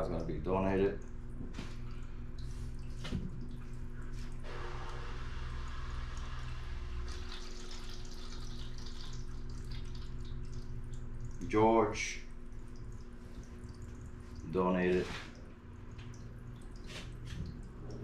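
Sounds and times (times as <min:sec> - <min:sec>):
aquarium filter trickling: 0:00.0 - 0:18.0.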